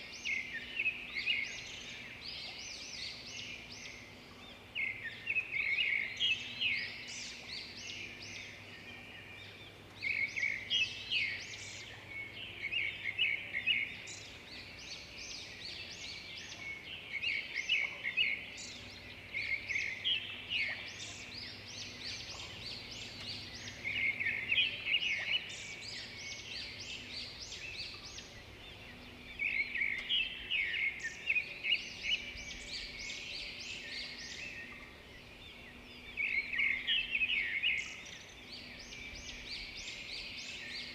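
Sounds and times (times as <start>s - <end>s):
small birds chirping and twittering: 0.0s - 40.9s.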